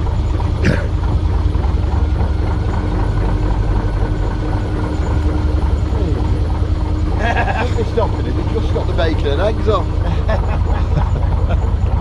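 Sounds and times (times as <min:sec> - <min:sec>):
low machinery drone: 0:00.0 - 0:12.0.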